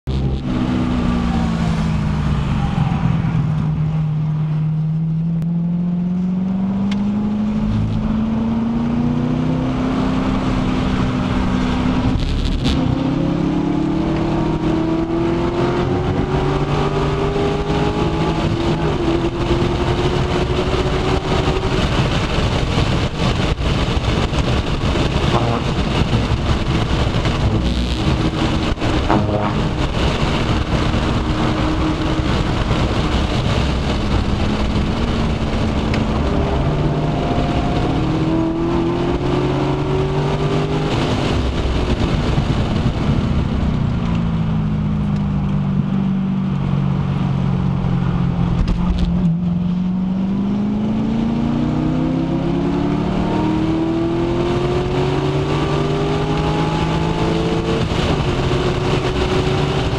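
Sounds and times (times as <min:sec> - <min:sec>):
car engine accelerating: 0:00.0 - 0:59.9
road noise: 0:00.0 - 0:59.9
wind noise: 0:00.0 - 0:59.9.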